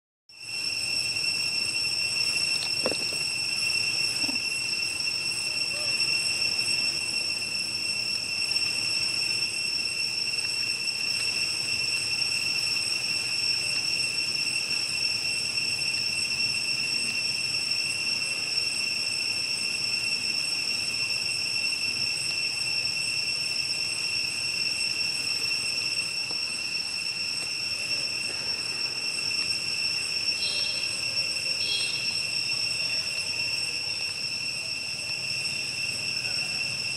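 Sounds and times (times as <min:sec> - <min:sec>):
insects droning: 0:00.3 - 0:36.9.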